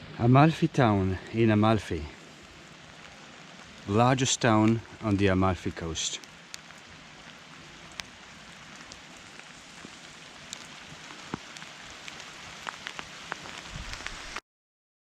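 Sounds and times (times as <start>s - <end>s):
rain falling: 0.0s - 14.4s
raindrops ticking: 0.3s - 14.4s.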